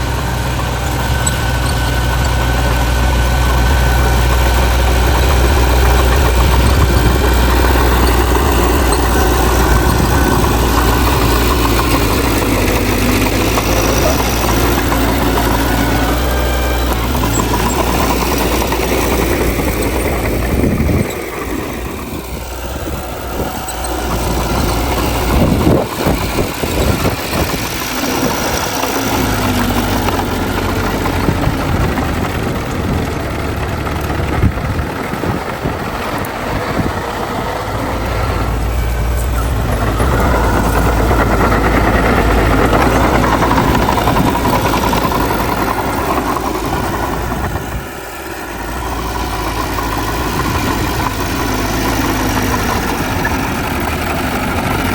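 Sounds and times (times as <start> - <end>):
diesel machinery engine running: 0.0 - 54.9.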